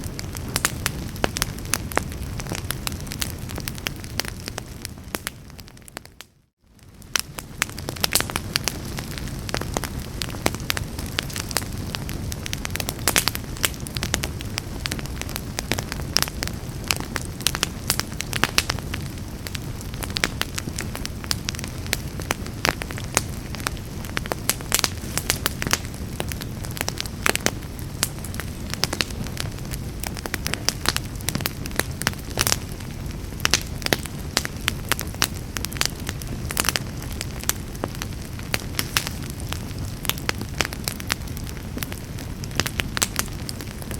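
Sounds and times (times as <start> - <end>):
low rumble of flames: 0.0 - 43.9
wood crackling and popping: 0.0 - 43.9.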